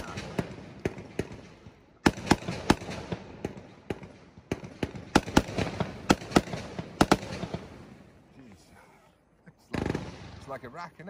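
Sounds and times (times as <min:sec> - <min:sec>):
fireworks cracking and banging: 0:00.0 - 0:08.1, 0:09.6 - 0:11.0.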